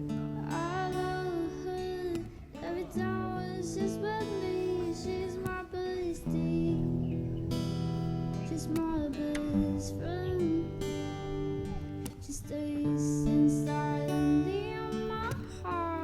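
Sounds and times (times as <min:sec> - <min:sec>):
acoustic guitar piece: 0:00.0 - 0:16.0.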